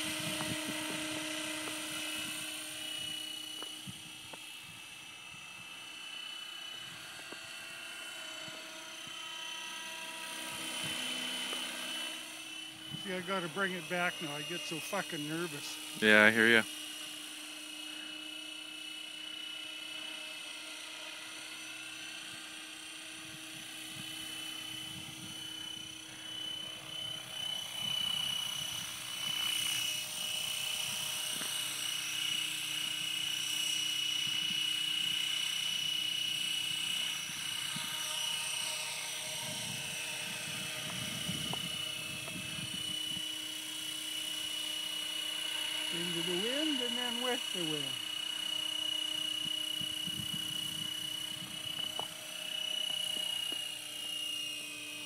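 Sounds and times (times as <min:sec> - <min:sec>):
rc helicopter whine: 0:00.0 - 0:55.0.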